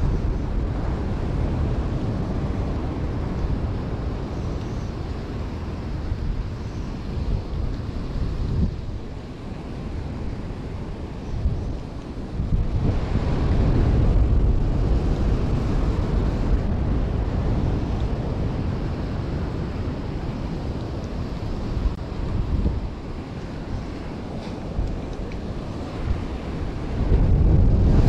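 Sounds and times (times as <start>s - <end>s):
sea waves washing on shore: 0.0s - 28.0s
wind buffeting microphone: 0.0s - 28.0s.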